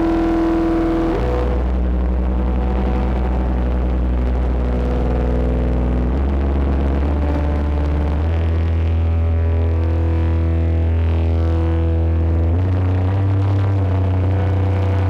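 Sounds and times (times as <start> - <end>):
distorted synthesizer drone: 0.0 - 15.0.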